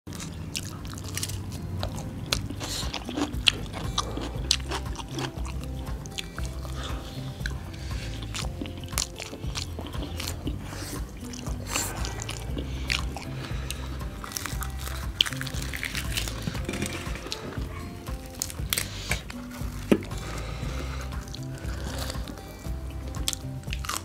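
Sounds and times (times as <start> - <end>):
background music: 0.1 - 24.0
crunchy chewing: 0.1 - 24.0.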